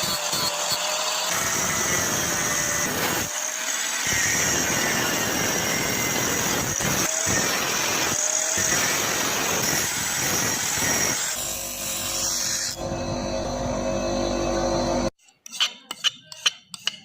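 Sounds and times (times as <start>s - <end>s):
power tool high whine: 0.0s - 15.1s.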